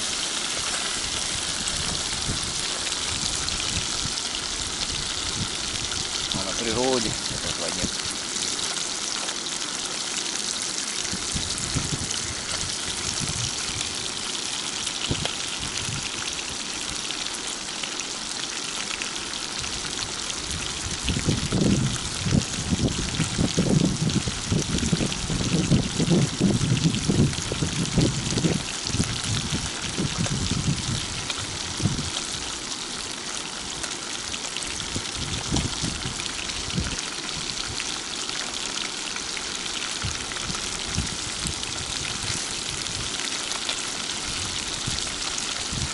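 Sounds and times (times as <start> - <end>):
fish frying in oil: 0.0 - 45.9.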